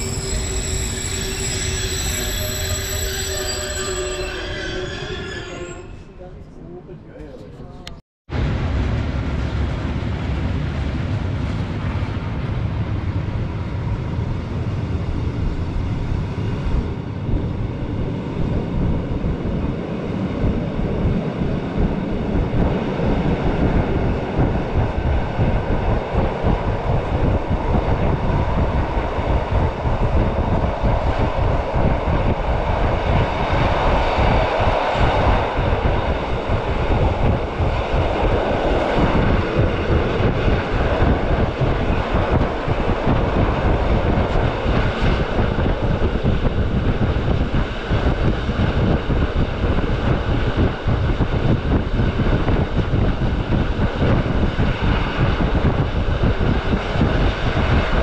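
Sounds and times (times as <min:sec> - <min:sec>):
train rushing rumble: 0:00.0 - 0:07.0, 0:08.3 - 0:58.0.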